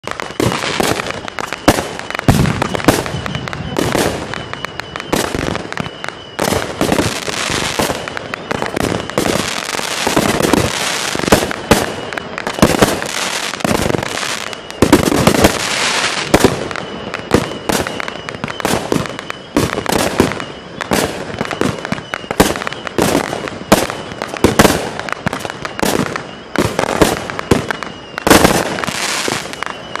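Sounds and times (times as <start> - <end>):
fireworks bursting bangs: 0.0 - 30.0.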